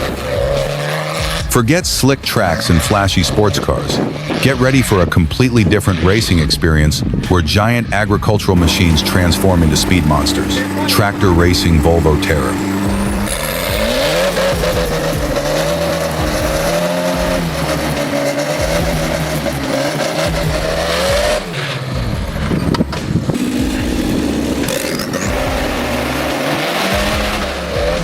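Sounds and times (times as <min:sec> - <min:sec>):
tractor engine running hard: 0:00.0 - 0:28.0.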